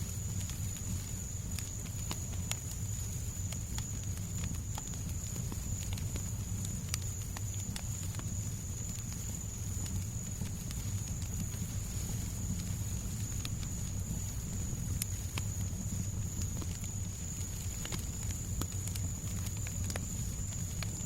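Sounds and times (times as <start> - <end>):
fireplace crackling: 0.1 - 21.0.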